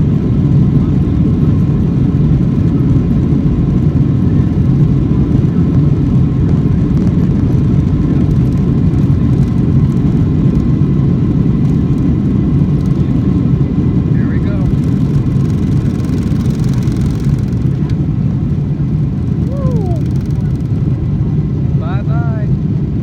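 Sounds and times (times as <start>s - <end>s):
jet engine low rumble: 0.0s - 23.0s.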